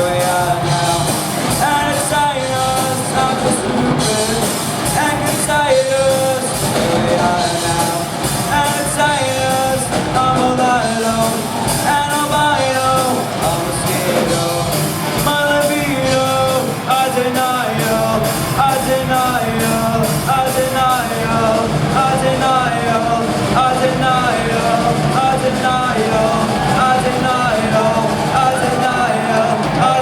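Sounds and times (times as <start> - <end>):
live rock band playing: 0.0 - 30.0
melodic lead guitar line: 0.0 - 30.0.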